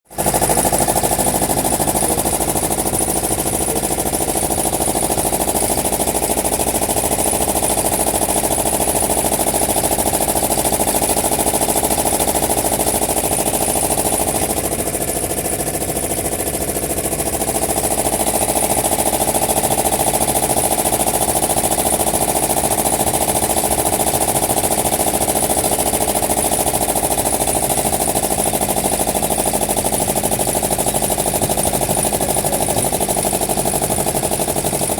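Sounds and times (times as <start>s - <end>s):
boat diesel engine knocking: 0.1s - 34.9s.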